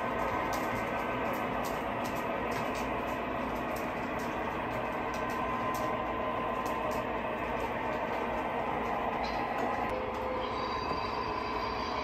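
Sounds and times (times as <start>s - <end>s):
model train rolling rumble: 0.0s - 12.0s.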